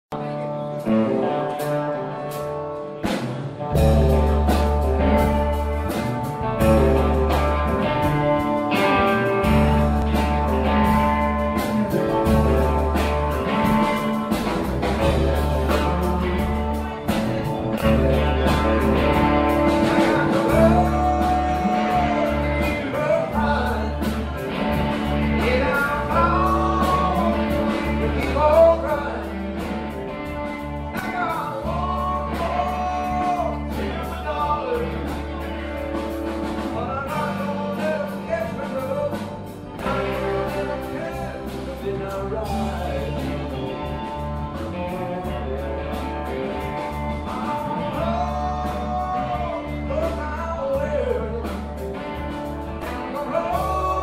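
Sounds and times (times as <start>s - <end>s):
blues-rock band playing: 0.1s - 54.0s
man singing: 3.2s - 54.0s.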